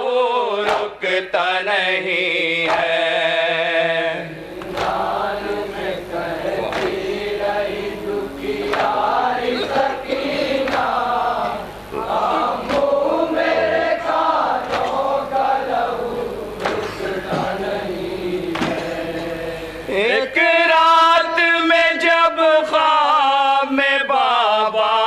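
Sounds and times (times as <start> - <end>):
rhythmic chest-beating: 0.0 - 21.1
men chanting in unison: 0.0 - 25.0.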